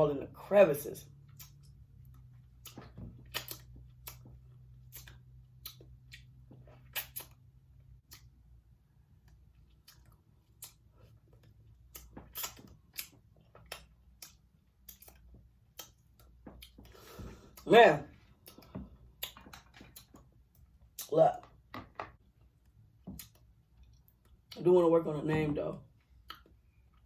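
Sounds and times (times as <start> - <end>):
chewing shellfish: 1.1 - 24.6.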